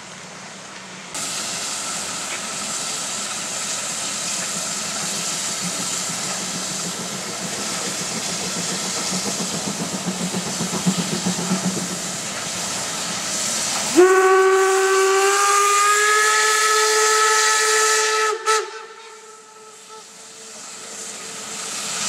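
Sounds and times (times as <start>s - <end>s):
steam hissing: 0.0s - 22.0s
steam locomotive rhythmic beat: 1.2s - 22.0s.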